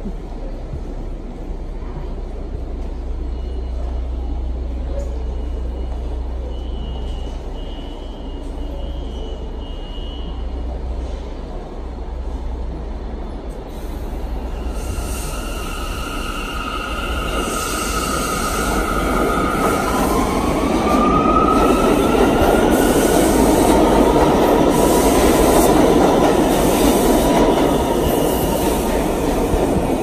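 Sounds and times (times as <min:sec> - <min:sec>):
stopped train humming and hissing: 0:00.0 - 0:30.0.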